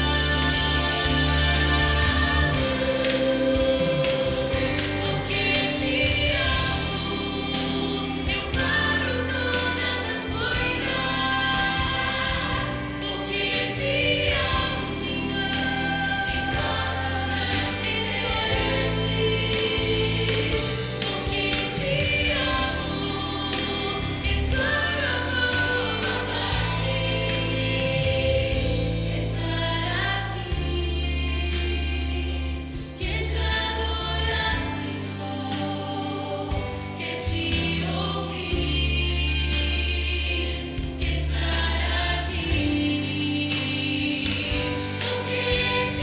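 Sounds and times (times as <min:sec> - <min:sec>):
choir singing: 0:00.0 - 0:46.0
low held bass: 0:00.0 - 0:46.0.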